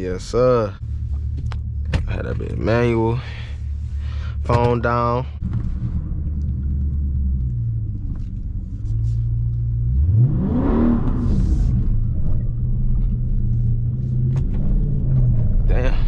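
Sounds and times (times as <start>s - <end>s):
car engine revving: 0.8s - 16.0s.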